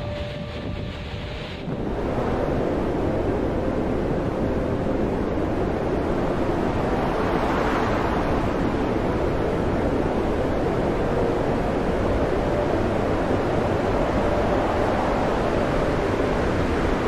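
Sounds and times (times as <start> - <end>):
heavy breaking waves: 0.0 - 17.0
wind roaring: 0.0 - 17.0.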